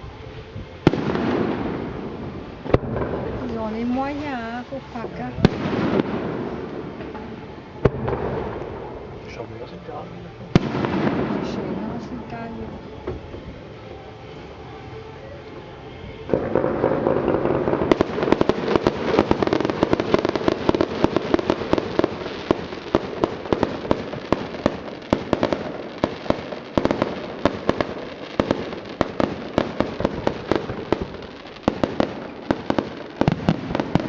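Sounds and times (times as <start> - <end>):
fireworks barrage: 0.0 - 34.0.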